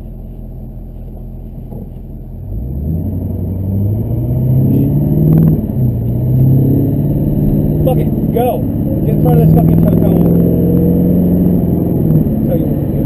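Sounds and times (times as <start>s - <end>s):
diesel engine accelerating: 1.0s - 13.0s.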